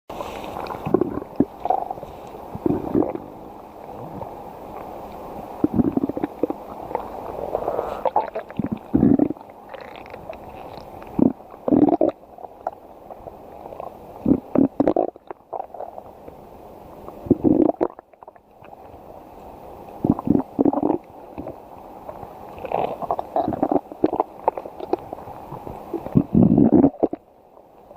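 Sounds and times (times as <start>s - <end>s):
stomach growling and gurgling: 0.6s - 4.9s, 5.6s - 16.2s, 17.1s - 18.8s, 20.0s - 27.3s.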